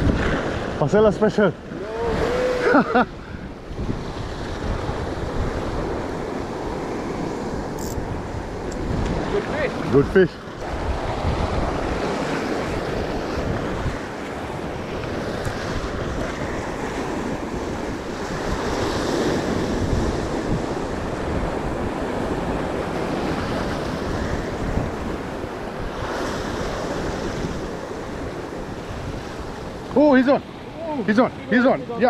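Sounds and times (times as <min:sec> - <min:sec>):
wind buffeting microphone: 0:00.0 - 0:30.0
sea waves breaking on rocks: 0:00.0 - 0:32.0.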